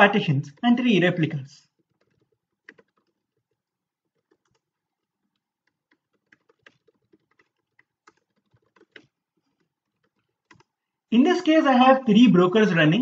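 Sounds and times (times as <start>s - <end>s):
keyboard typing: 0.0s - 11.0s.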